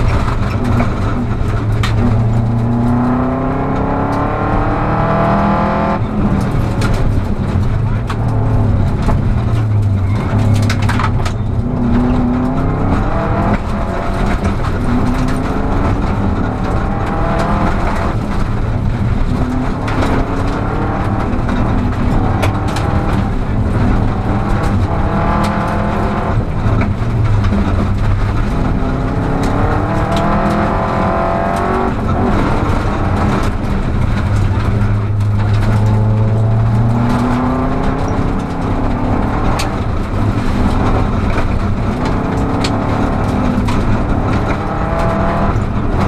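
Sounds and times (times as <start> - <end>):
rally car engine revving: 0.0 - 46.0.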